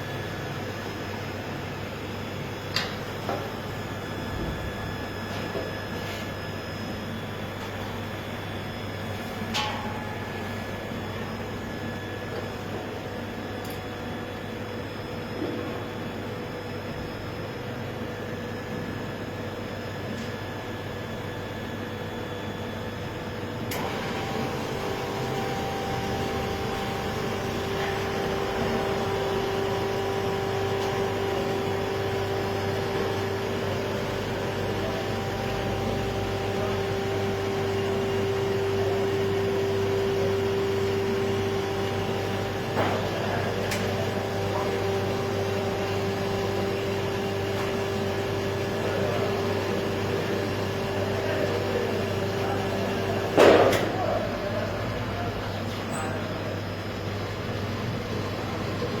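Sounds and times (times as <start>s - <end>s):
machine hum with whine: 0.0s - 59.0s.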